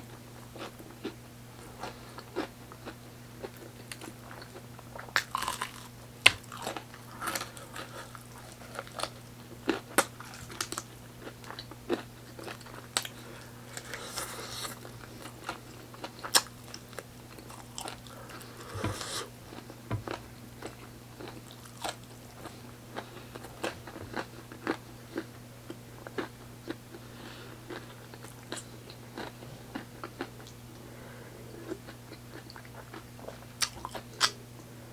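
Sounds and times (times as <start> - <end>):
steady low hum: 0.0 - 34.9
person chewing crunchy food: 0.6 - 30.9, 31.5 - 34.4.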